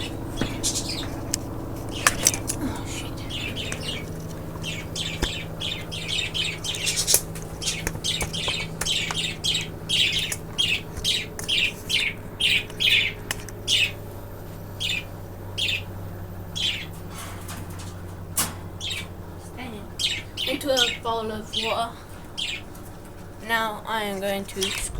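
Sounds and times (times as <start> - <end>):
budgerigar chirps and squawks: 0.0 - 14.1, 14.7 - 17.9, 18.6 - 22.8
steady low hum: 0.0 - 24.9.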